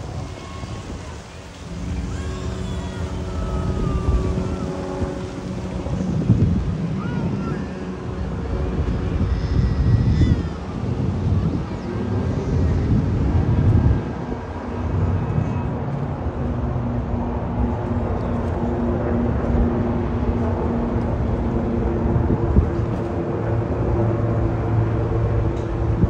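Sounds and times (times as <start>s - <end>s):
city background noise: 0.0s - 26.0s
engine drone: 0.0s - 26.0s.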